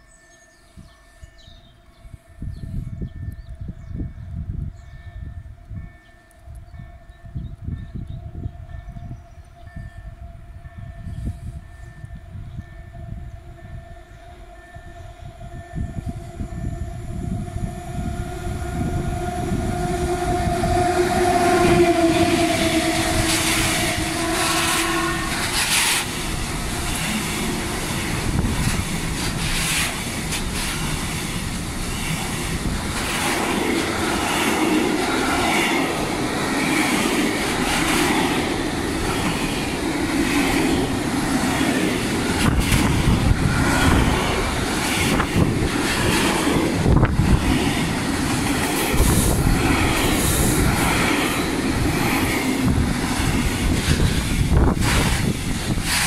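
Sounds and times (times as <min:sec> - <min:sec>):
electric locomotive whine: 0:00.0 - 0:56.0
freight train rumbling past: 0:00.0 - 0:56.0.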